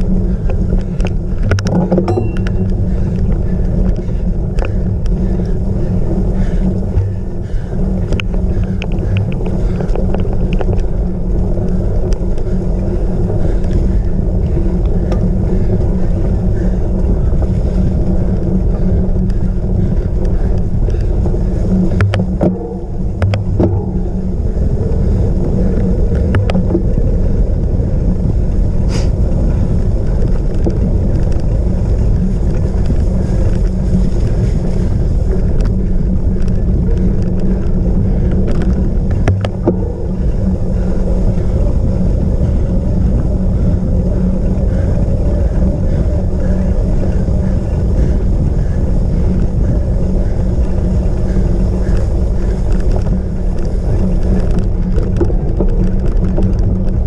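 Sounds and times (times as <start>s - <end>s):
bike clicks and rattles: 0.0s - 57.0s
wind buffeting microphone: 0.0s - 57.0s.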